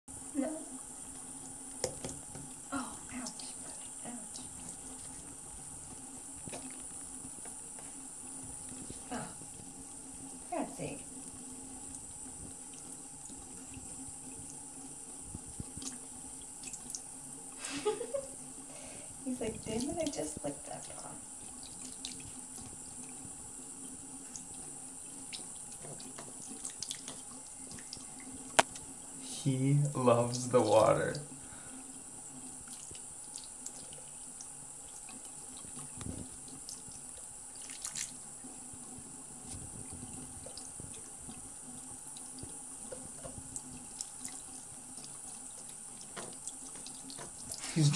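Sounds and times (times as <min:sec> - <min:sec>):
faucet running thin stream: 0:00.1 - 0:47.9
light water splashes: 0:00.4 - 0:47.9.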